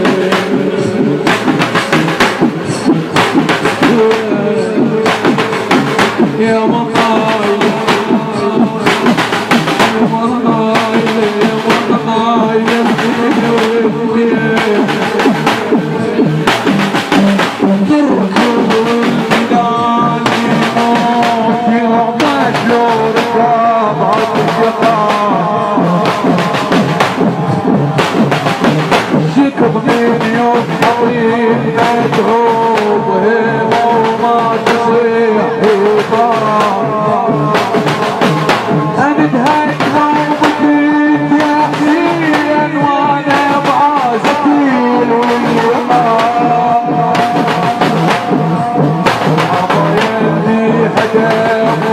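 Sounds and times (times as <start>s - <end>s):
fast steady drum beat: 0.0s - 51.9s
mourning chant: 0.0s - 51.9s.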